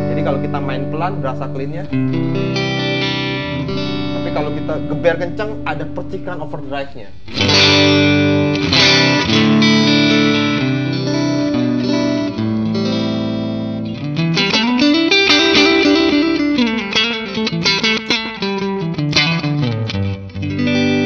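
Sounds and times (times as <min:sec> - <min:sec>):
electric guitar chords and strums: 0:00.0 - 0:21.0.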